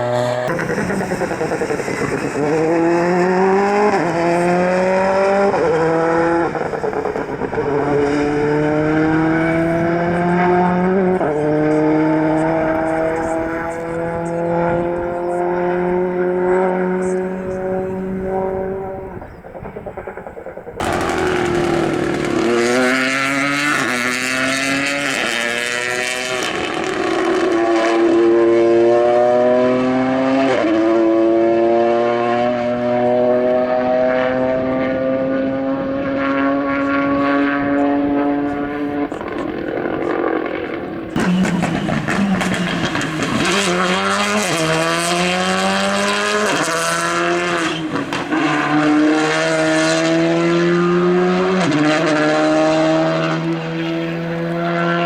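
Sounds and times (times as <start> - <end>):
rally cars accelerating through gears: 0.0 - 55.0.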